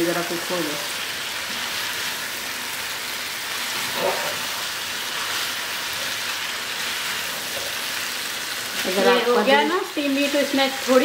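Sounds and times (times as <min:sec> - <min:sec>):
curry sizzling in oil: 0:00.0 - 0:11.0.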